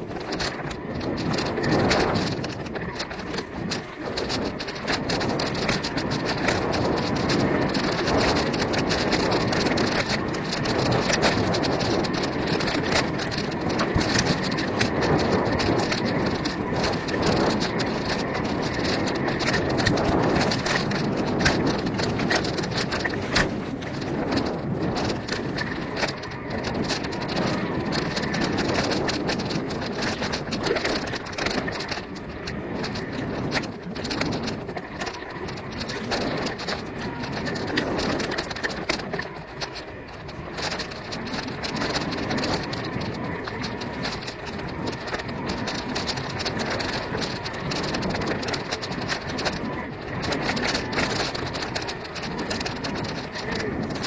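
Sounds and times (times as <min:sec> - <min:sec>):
bike clicks and rattles: 0:00.0 - 0:54.0
plants brushing against bike: 0:00.0 - 0:54.0
tyres rumbling on dirt: 0:00.0 - 0:54.0
wind on microphone: 0:00.0 - 0:54.0.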